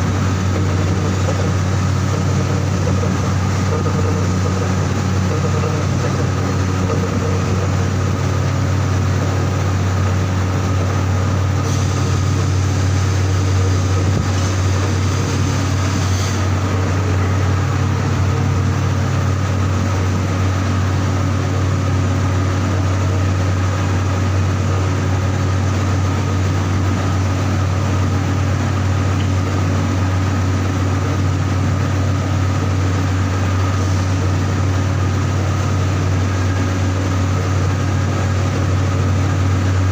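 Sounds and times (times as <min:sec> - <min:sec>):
heavy machinery low hum: 0:00.0 - 0:39.9.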